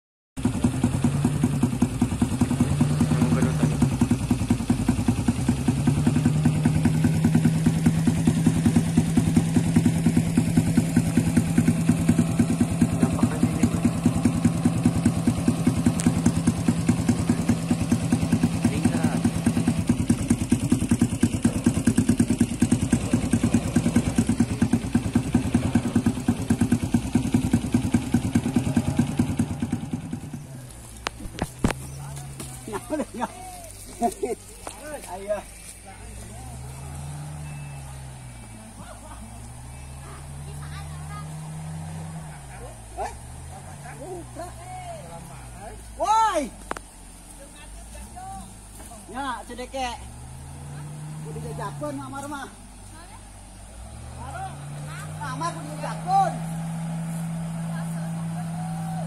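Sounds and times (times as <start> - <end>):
motorcycle engine idling: 0.4 - 59.0
second engine droning: 0.4 - 59.0.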